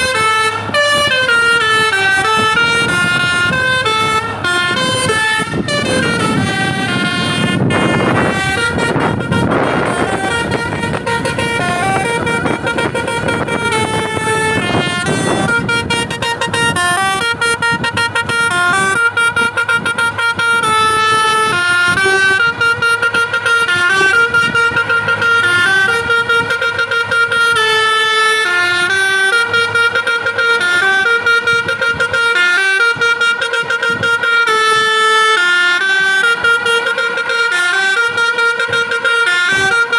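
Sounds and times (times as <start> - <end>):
bus horn playing a melody: 0.0 - 39.9.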